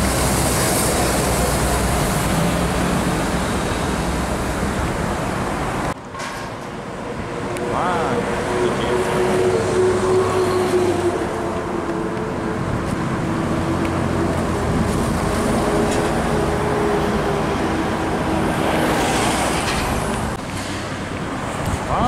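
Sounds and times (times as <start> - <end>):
truck driving past: 0.0 - 6.0, 6.8 - 21.7
traffic noise: 0.0 - 22.0.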